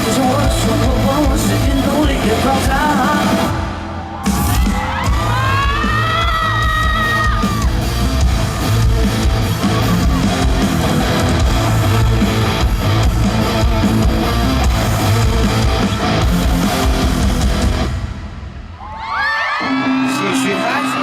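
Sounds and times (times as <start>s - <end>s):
bass guitar: 0.0s - 18.5s
strummed electric guitar: 0.0s - 18.5s
steady drum beat: 0.0s - 18.8s.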